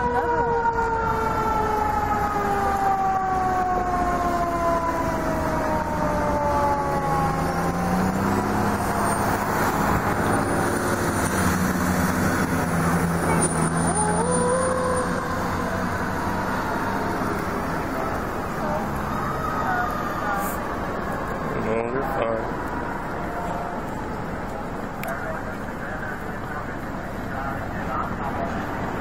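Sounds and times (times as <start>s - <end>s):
emergency vehicle siren: 0.0s - 29.0s
vehicle engine and road noise: 0.0s - 29.0s.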